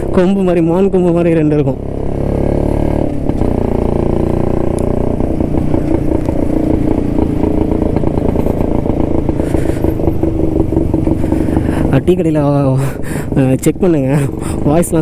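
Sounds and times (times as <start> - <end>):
two-stroke motorcycle engine running: 0.0 - 15.0.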